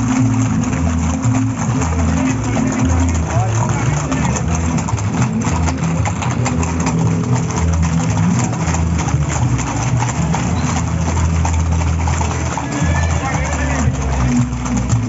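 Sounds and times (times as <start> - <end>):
horse hooves on pavement: 0.0 - 15.0.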